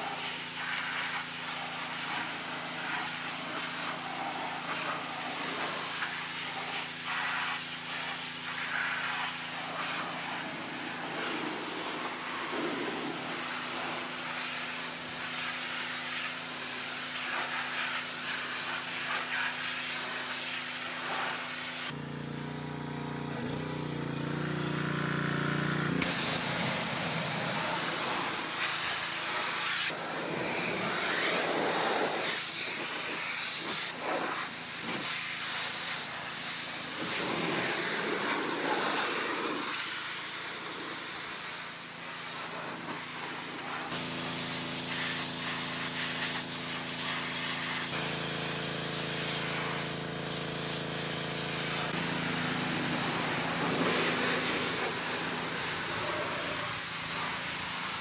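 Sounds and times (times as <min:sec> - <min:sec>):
pressure washer spraying metal: 0:00.0 - 0:22.0, 0:24.9 - 0:58.0.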